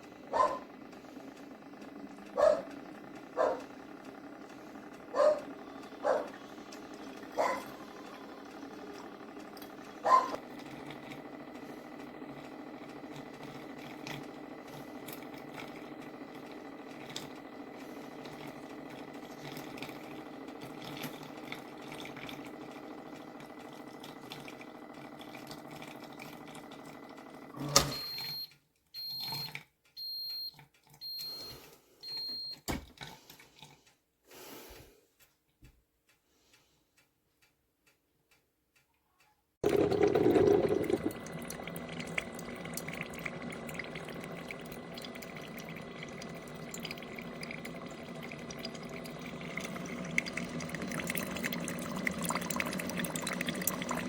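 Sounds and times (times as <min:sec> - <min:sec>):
coffee maker humming: 0:00.0 - 0:30.2, 0:39.6 - 0:54.0.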